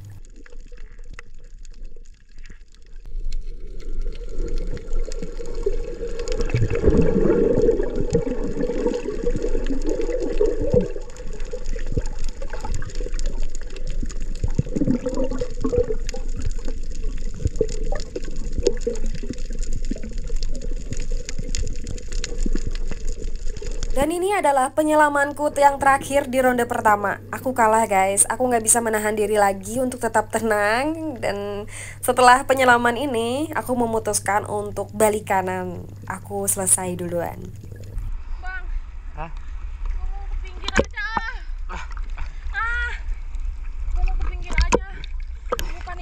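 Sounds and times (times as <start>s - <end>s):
muffled underwater churning: 0.0s - 46.0s.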